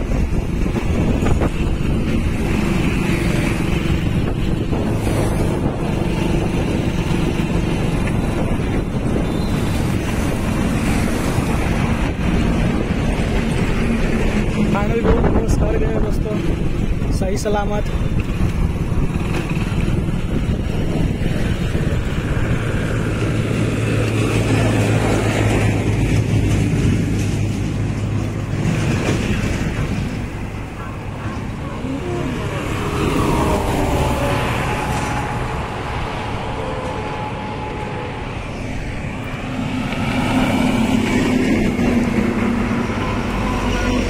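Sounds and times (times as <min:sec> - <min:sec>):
heavy truck engine hum: 0:00.0 - 0:44.0
highway traffic passing: 0:00.0 - 0:44.0
wind rumbling on microphone: 0:00.0 - 0:44.0.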